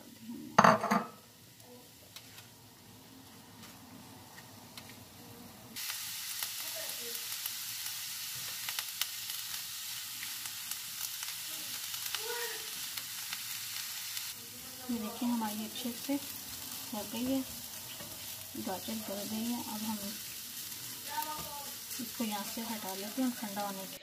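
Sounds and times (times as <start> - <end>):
vegetables sizzling in pan: 0.0 - 24.0.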